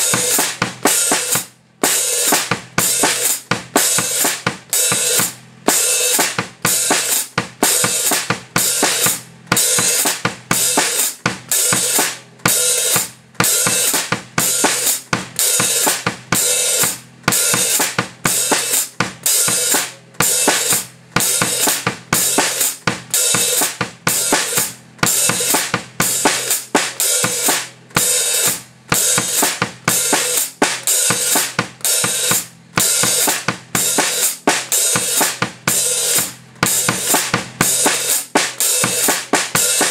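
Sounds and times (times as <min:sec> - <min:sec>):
bass drum: 0:00.0 - 0:39.9
snare drum: 0:00.0 - 0:39.9.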